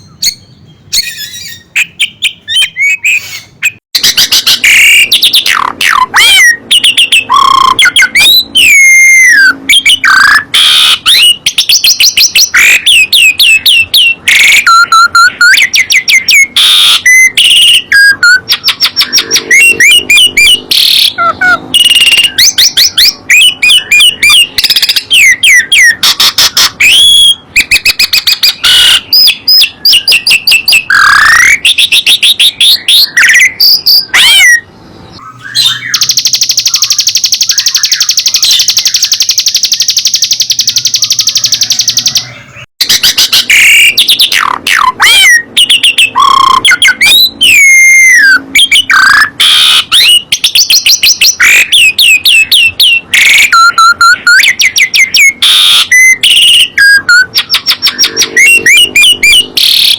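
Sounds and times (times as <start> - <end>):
fast high bird trill: 0.0 - 59.9
songbirds chirping and whistling: 0.0 - 59.9.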